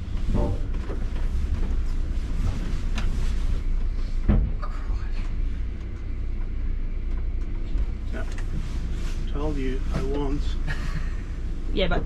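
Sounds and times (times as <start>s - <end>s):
diesel engine running slowly: 0.0s - 12.0s.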